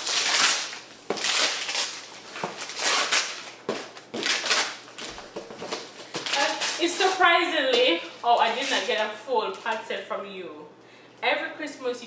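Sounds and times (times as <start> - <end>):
wrapping paper crinkling: 0.0 - 9.9.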